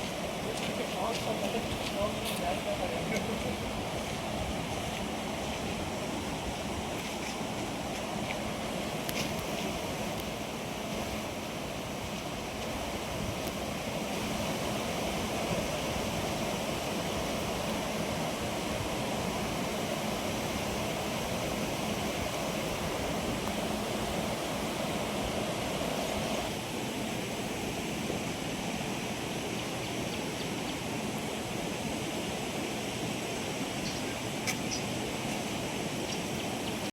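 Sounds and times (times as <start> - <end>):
flowing water rushing: 0.0 - 36.9.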